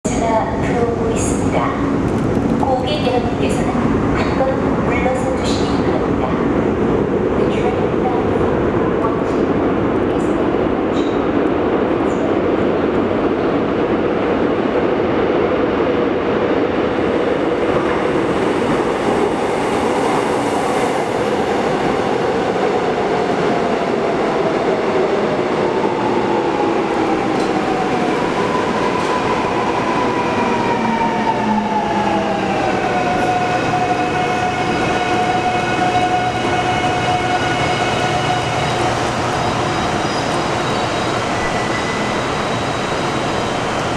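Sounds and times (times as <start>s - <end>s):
train humming: 0.0s - 43.9s.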